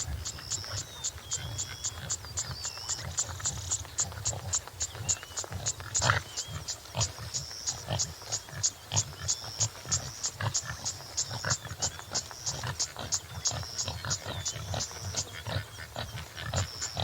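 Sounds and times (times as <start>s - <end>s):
insect chirping: 0.0s - 17.0s
small birds calling: 0.0s - 17.0s.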